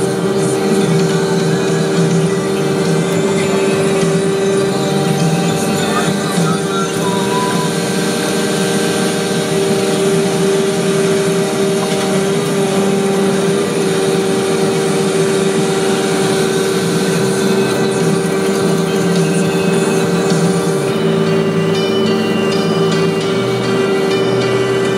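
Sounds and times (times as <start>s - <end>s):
paving machine engine drone: 0.0s - 24.9s.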